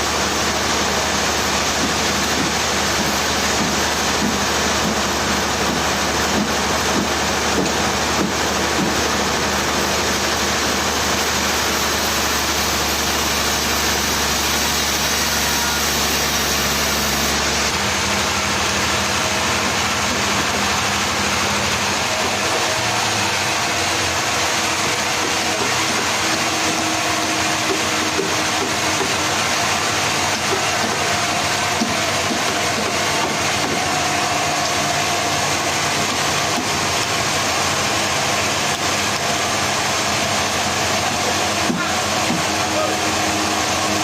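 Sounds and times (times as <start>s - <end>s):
sawmill machinery running: 0.0s - 44.0s.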